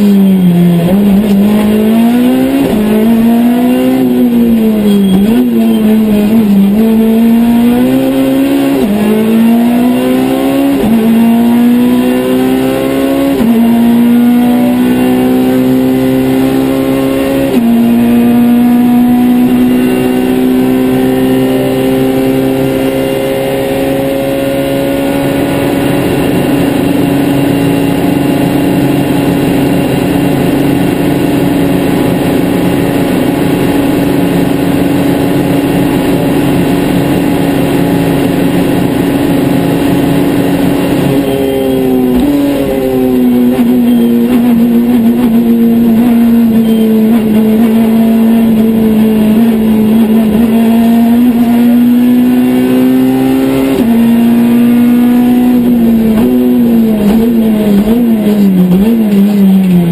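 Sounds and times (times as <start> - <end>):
car engine revving in cabin: 0.0 - 59.9.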